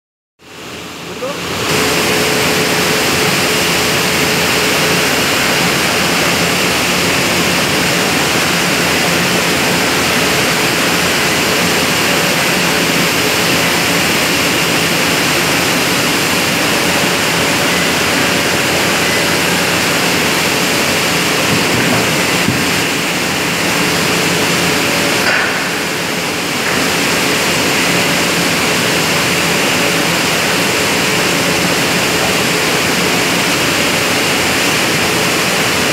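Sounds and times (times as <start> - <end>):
industrial rushing hiss: 0.6 - 35.9.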